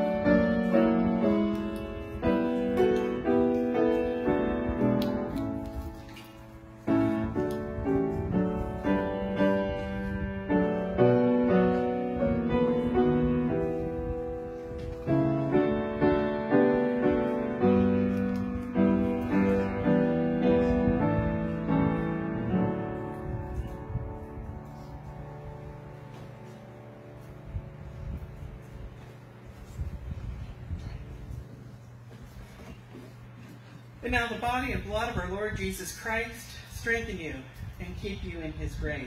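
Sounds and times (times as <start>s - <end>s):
piano playing slow hymn: 0.0s - 33.9s.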